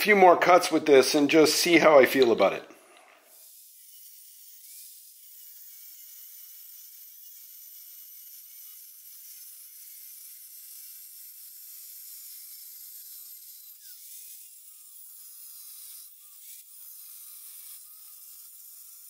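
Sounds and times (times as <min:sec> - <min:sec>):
angle grinder cutting steel: 0:00.0 - 0:19.0.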